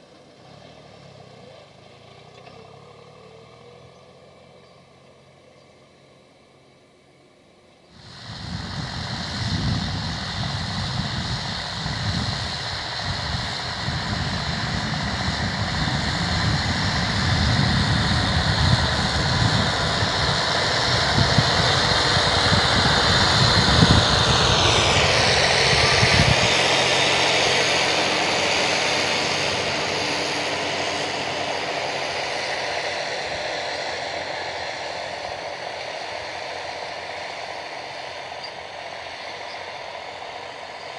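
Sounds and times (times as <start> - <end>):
tractor diesel engine passing: 0.0 - 40.9.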